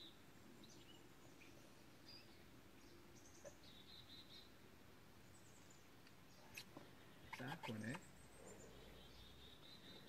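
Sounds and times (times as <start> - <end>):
faint bird chirps: 0.0 - 4.6, 5.2 - 10.0.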